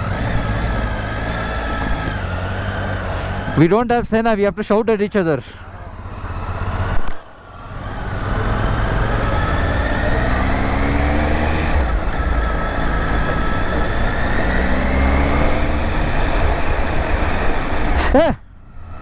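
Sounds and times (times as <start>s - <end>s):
motorcycle accelerating: 0.0s - 19.0s.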